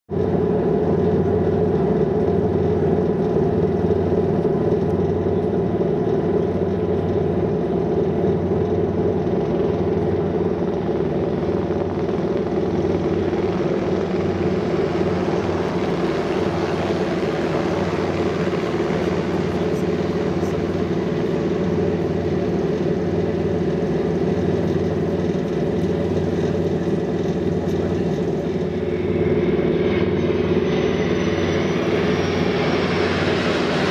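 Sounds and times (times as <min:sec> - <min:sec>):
boat engines humming: 0:00.1 - 0:33.9
helicopter passing overhead: 0:00.1 - 0:33.9.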